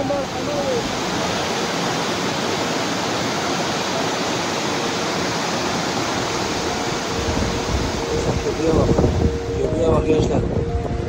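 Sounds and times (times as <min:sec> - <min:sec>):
floodwater rushing down a street: 0:00.0 - 0:11.0.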